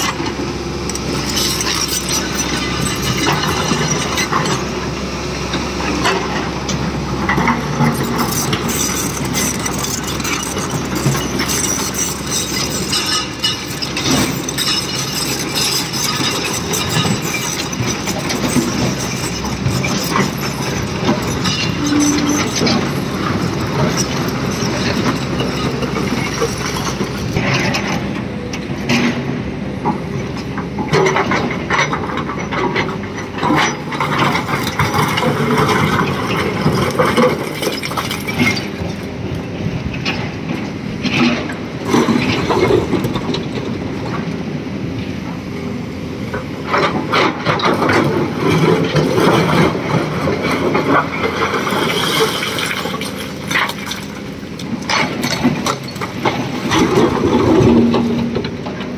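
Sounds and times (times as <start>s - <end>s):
clatter of stones and metal: 0.0s - 4.7s, 7.2s - 28.1s, 28.8s - 39.2s, 39.9s - 44.2s, 46.3s - 58.9s
diesel engine running: 0.0s - 58.9s.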